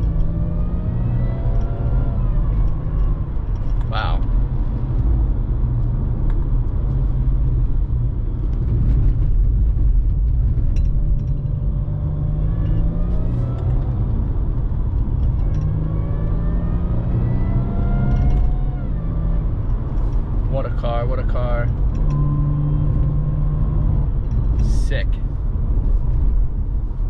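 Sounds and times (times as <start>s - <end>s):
supercharger whine: 0.0s - 5.4s, 6.4s - 25.1s
deep engine rumble: 0.0s - 27.0s.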